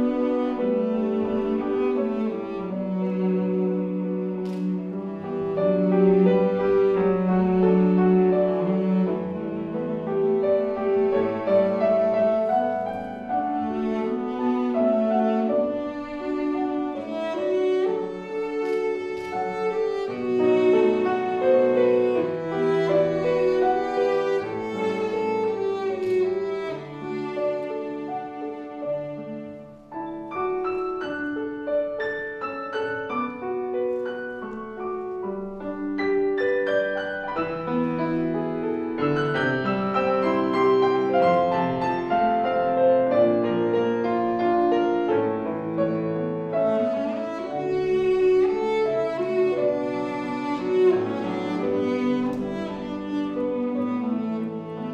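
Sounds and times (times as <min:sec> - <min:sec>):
cello melody: 0:00.0 - 0:54.9
piano accompaniment: 0:00.0 - 0:54.9.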